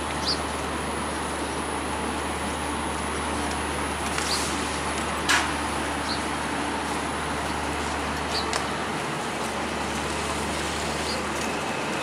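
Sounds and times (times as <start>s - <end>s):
idling diesel train hum: 0.0s - 12.0s
bustle of passengers: 0.4s - 12.0s.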